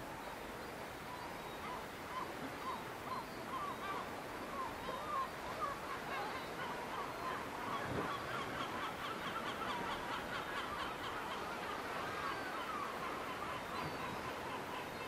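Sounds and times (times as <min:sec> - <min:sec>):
steady background hiss: 0:00.0 - 0:15.0
gulls calling: 0:01.2 - 0:15.0.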